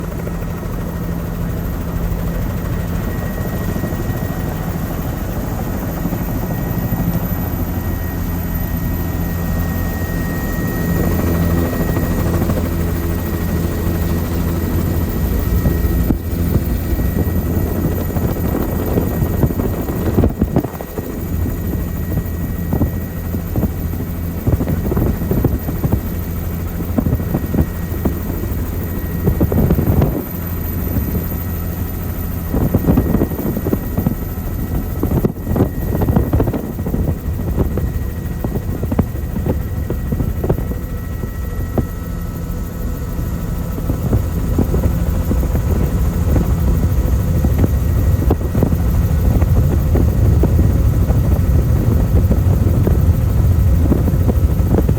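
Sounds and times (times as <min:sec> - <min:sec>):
faint steady whine: 0:00.0 - 0:54.9
helicopter rotor and turbine drone: 0:00.0 - 0:54.9.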